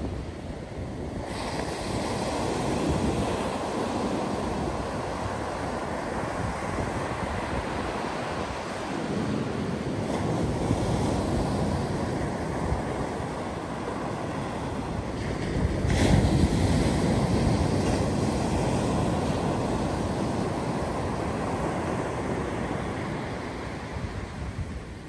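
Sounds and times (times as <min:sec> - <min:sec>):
waves breaking on beach: 0:00.0 - 0:25.0.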